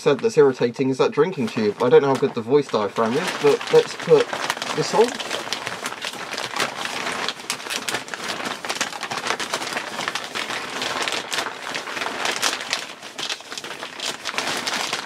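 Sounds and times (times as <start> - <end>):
plastic poncho crinkling: 0.0 - 15.0.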